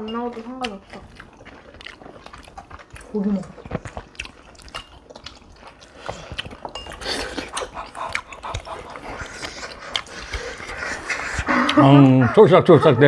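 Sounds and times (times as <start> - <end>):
chewing and slurping: 0.0 - 12.4.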